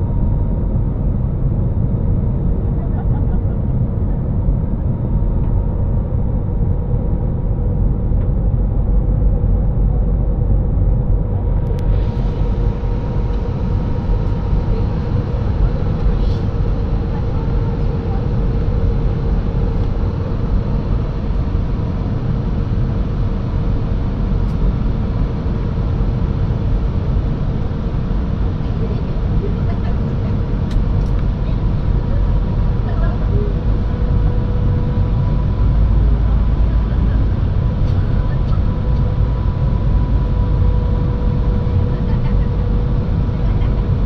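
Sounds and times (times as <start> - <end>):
jet engines rumbling: 0.0 - 44.0
rushing airflow: 5.1 - 44.0.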